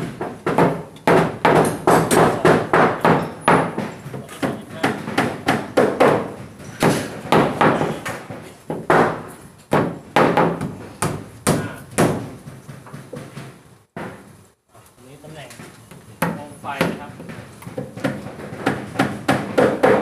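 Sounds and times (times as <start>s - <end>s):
hammer striking plywood: 0.0s - 14.3s, 16.2s - 20.0s.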